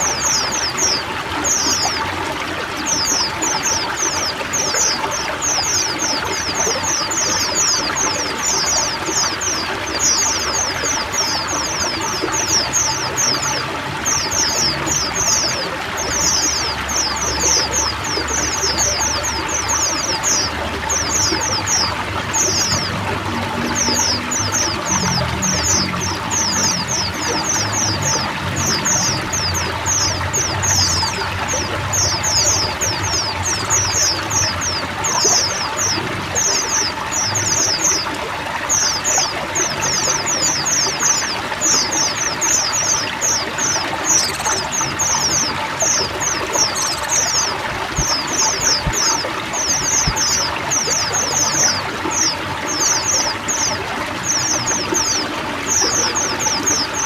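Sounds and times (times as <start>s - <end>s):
flock of birds chirping: 0.0s - 57.0s
water trickling and pouring: 0.0s - 57.0s.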